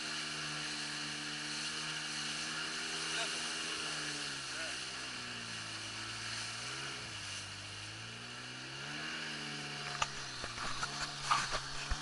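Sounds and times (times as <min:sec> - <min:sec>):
watercraft engine running: 0:00.0 - 0:12.0.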